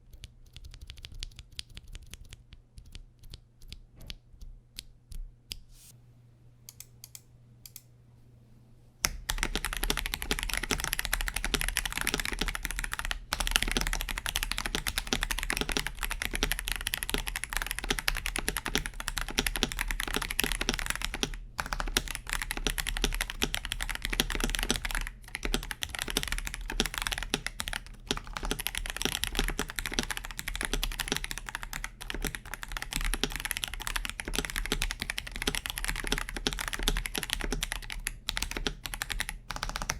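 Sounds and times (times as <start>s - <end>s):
typing on mechanical keyboard: 0.1s - 4.1s, 9.1s - 39.9s.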